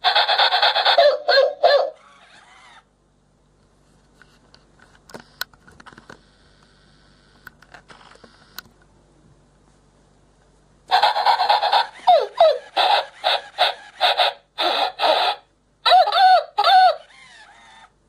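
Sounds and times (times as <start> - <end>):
faint whir: 0.0 - 18.0.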